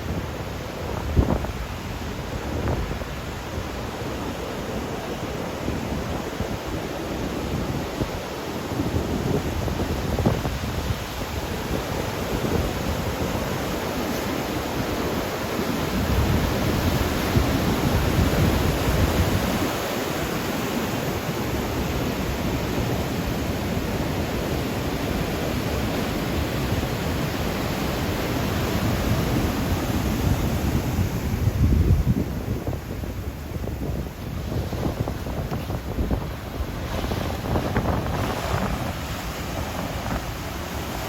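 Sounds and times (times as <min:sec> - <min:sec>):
ocean surf breaking: 0:00.0 - 0:41.0
wind buffeting microphone: 0:00.0 - 0:41.0.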